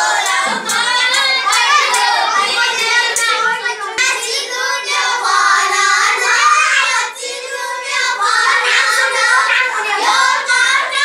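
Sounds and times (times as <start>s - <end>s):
children singing folk song: 0.0s - 11.0s.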